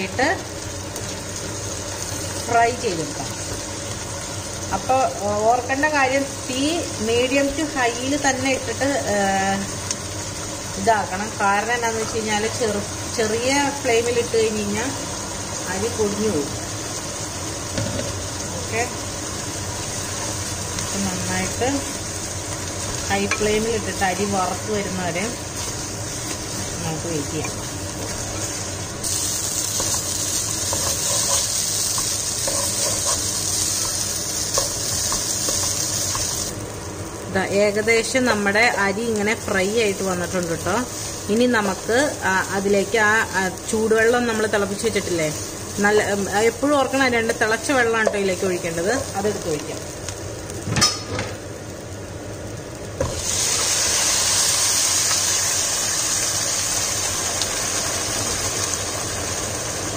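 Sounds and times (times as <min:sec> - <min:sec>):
rice and onions sizzling: 0:00.0 - 0:59.9.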